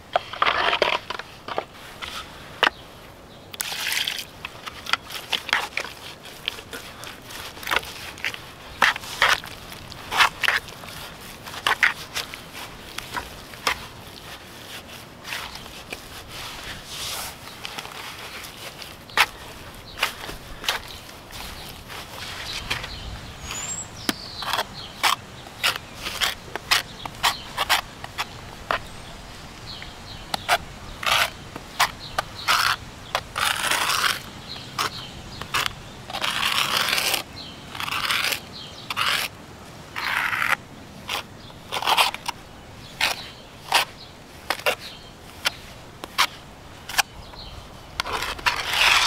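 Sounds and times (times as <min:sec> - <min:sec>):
trowel scraping mortar: 0:00.1 - 0:02.3, 0:03.6 - 0:29.0, 0:30.4 - 0:39.4, 0:40.0 - 0:47.1, 0:48.0 - 0:49.0.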